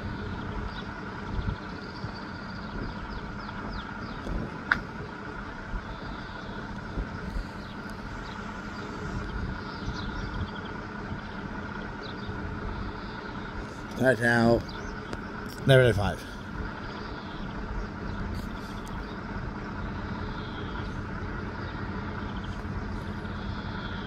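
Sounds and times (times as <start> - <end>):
birds chirping: 0.0 - 24.0
low mechanical hum and rumble: 0.0 - 24.0.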